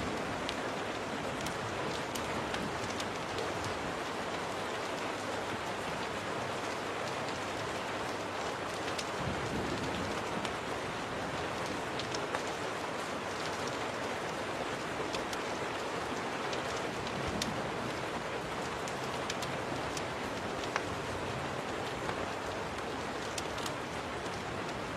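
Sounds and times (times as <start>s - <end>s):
rain on a window: 0.0s - 24.9s
wood fire crackling: 0.1s - 4.8s, 5.5s - 24.9s.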